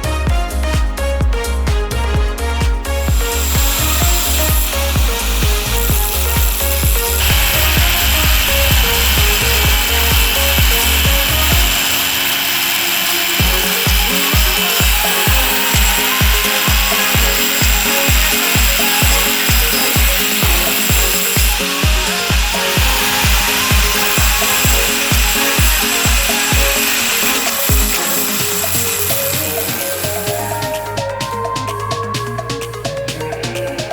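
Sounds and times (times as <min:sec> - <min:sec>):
background music with bass beat: 0:00.0 - 0:33.9
grinder grinding steel: 0:02.9 - 0:31.0.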